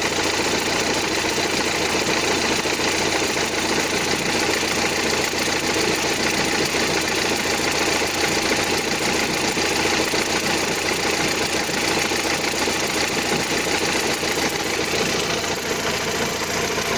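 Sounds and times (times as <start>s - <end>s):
diesel engine idling with clatter: 0.0s - 16.9s.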